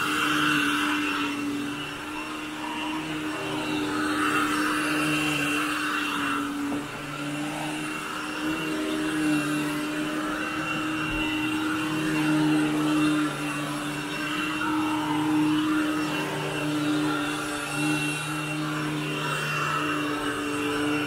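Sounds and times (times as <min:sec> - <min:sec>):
vacuum cleaner on carpet: 0:00.0 - 0:21.0.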